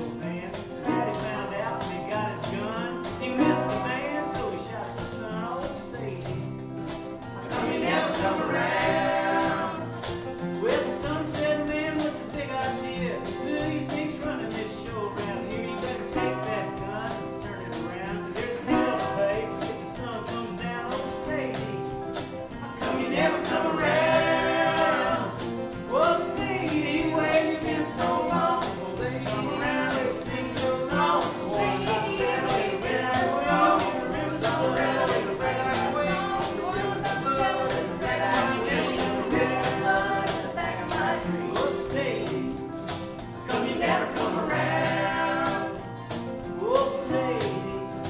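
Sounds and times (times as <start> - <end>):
acoustic guitars playing folk song: 0.0 - 48.0
percussive beat: 0.0 - 48.0
voices singing: 5.7 - 13.4, 14.0 - 48.0.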